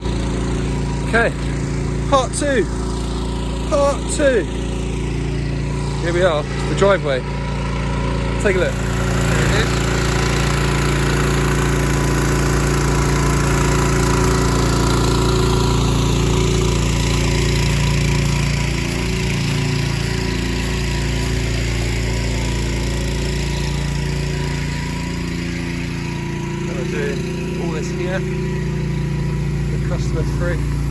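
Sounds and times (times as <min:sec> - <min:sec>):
pressure washer engine running: 0:00.0 - 0:30.9.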